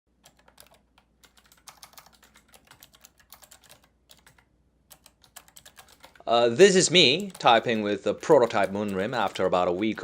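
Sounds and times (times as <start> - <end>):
clicky keyboard typing: 0.2 - 6.3, 7.0 - 10.0.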